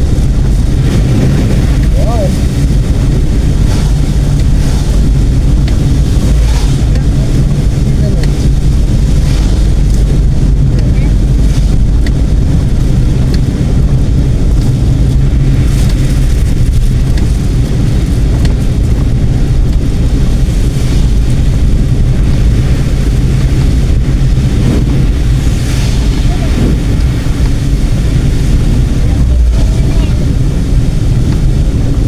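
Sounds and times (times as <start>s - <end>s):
car road and engine rumble: 0.0s - 32.0s
wind noise on microphone: 0.0s - 32.0s.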